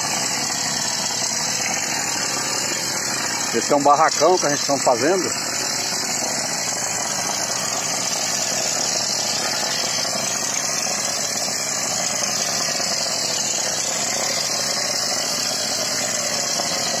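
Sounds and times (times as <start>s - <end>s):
machinery running: 0.0s - 17.0s
plaster spray gun hissing: 0.0s - 17.0s.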